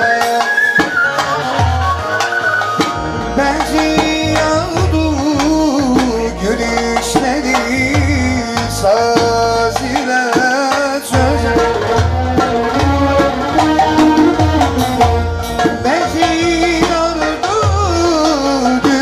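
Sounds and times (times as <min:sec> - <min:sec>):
man singing folk melody: 0:00.0 - 0:02.0, 0:03.3 - 0:14.7, 0:15.6 - 0:19.0
lute and keyboard: 0:00.0 - 0:19.0
heavy steady drum beat: 0:02.8 - 0:19.0.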